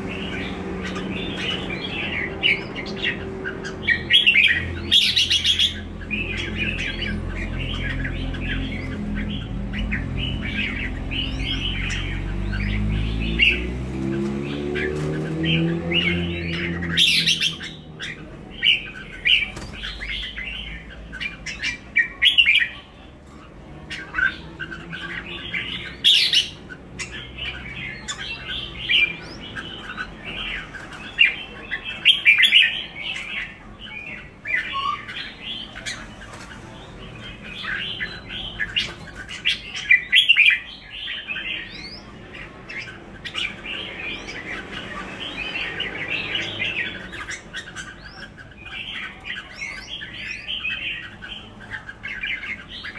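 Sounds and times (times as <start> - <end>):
birds chirping and calling: 0.0 - 52.9.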